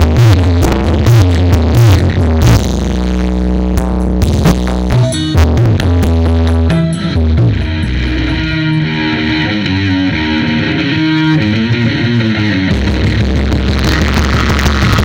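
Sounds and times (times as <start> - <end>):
plucked guitar-like melody: 0.0 - 2.9, 3.6 - 15.0
heavy bass beat: 0.0 - 15.0.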